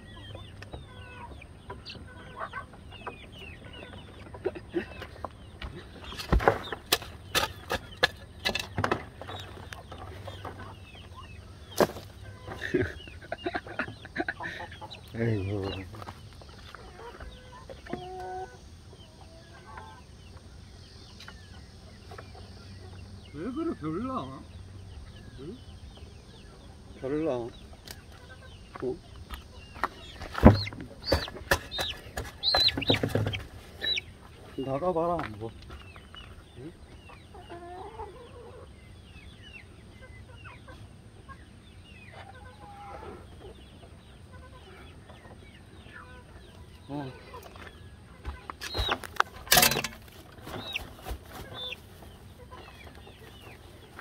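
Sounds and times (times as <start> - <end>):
chicken calling: 0.0 - 6.1, 9.2 - 20.5, 25.3 - 34.8, 36.0 - 39.0, 39.6 - 54.0.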